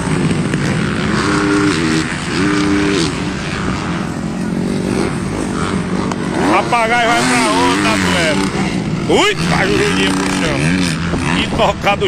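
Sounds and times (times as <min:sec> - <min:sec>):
low rumble of other bikes: 0:00.0 - 0:12.0
motocross bike engines revving: 0:00.0 - 0:12.0.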